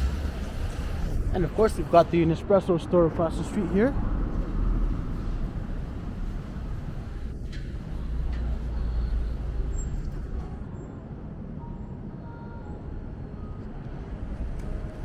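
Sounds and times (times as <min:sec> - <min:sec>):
traffic rumble: 0:00.0 - 0:12.0, 0:12.8 - 0:15.0.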